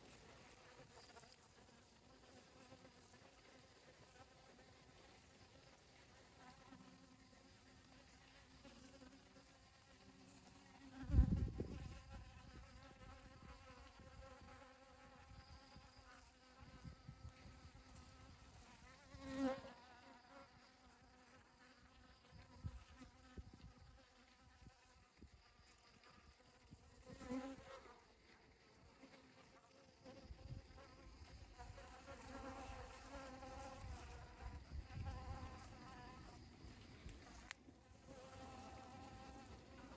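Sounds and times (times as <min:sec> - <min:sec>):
bees buzzing: 0:00.0 - 0:27.9, 0:29.0 - 0:39.9.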